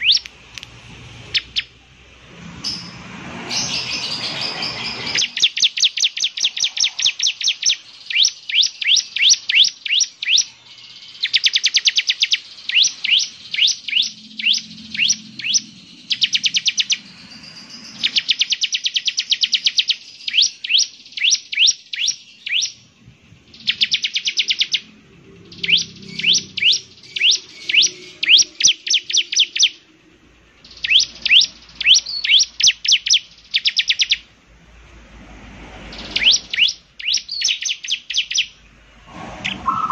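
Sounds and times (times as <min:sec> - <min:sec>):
bird chirping in fast runs: 0:00.0 - 0:00.2, 0:03.5 - 0:29.8, 0:30.6 - 0:34.3, 0:35.9 - 0:38.6, 0:39.4 - 0:39.9.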